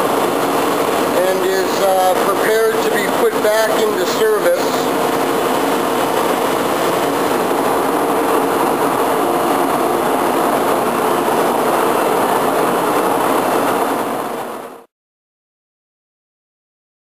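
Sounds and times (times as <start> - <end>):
low hum: 0.0 - 14.9
shop machinery drone: 0.0 - 14.9.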